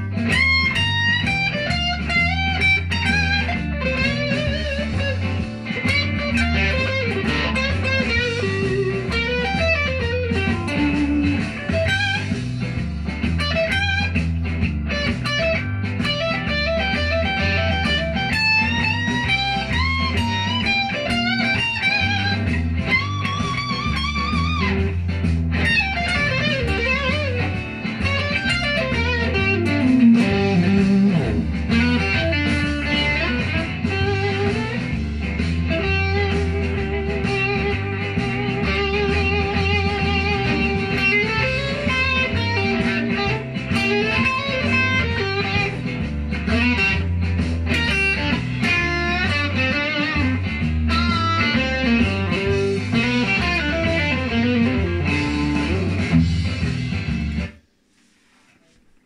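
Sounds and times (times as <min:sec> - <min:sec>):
electric guitar blues lead: 0:00.0 - 0:57.6
backing track with bass line: 0:00.0 - 0:57.7.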